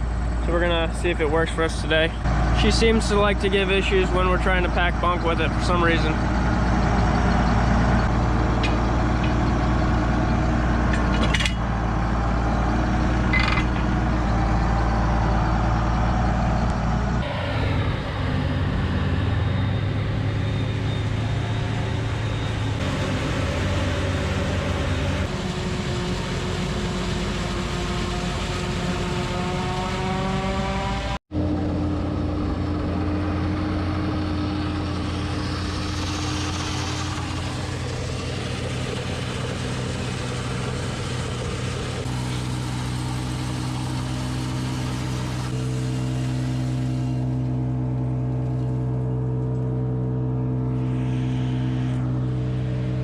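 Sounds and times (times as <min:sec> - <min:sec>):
diesel tractor engine running: 0:00.0 - 0:53.0.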